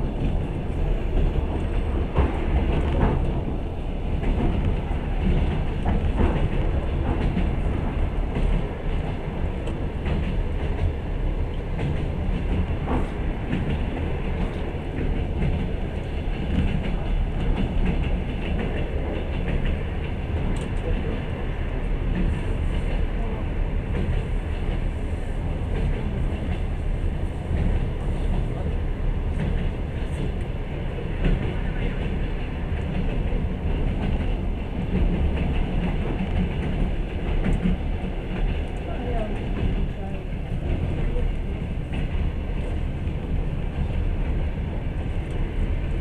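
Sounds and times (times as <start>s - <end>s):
train carriage rumble: 0.0s - 46.0s.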